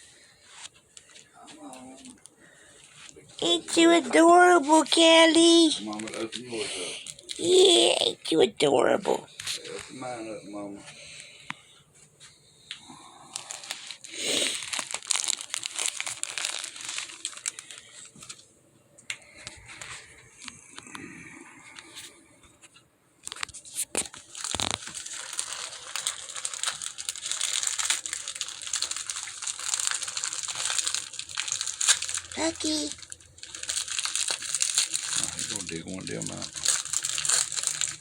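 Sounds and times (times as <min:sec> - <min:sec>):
gift wrapping paper crinkling: 0:00.0 - 0:11.3, 0:13.0 - 0:18.4, 0:19.3 - 0:20.3, 0:23.2 - 0:38.0.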